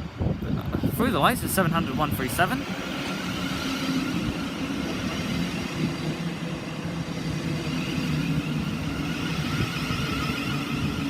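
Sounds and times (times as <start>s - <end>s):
electric train hum and whine: 0.0s - 11.0s.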